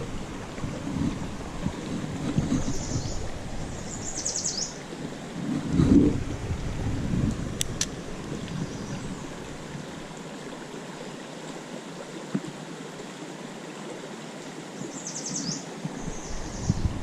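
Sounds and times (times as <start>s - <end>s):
small river flowing: 0.0s - 17.0s.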